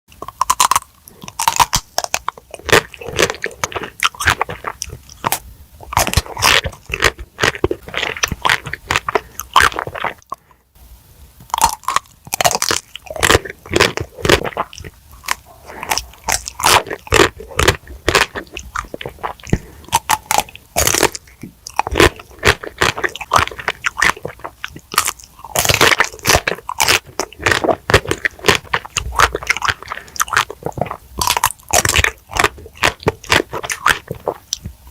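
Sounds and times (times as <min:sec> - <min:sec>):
crunchy chewing: 0:00.1 - 0:10.6, 0:11.5 - 0:34.9.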